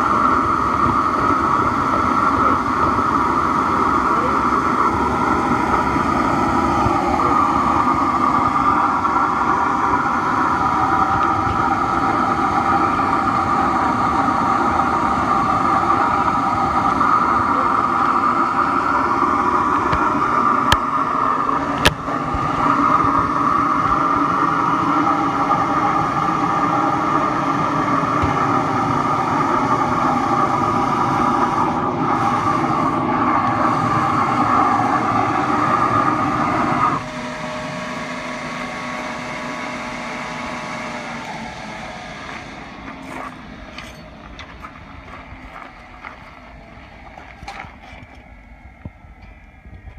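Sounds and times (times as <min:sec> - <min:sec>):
furnace burner roaring: 0:00.0 - 0:49.9.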